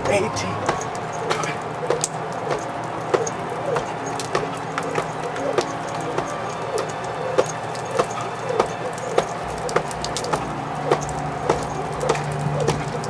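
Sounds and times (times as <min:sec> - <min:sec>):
rain hissing: 0:00.0 - 0:13.0
jump rope slapping wet ground: 0:00.6 - 0:13.0.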